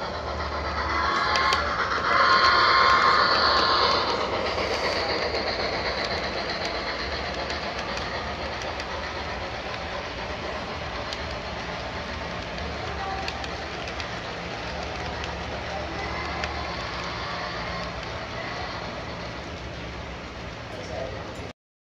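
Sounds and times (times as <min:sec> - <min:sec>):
model cars rolling on track: 0:00.0 - 0:21.5
model steam locomotive passing: 0:00.0 - 0:21.5
wheels clicking on rail: 0:00.0 - 0:21.5.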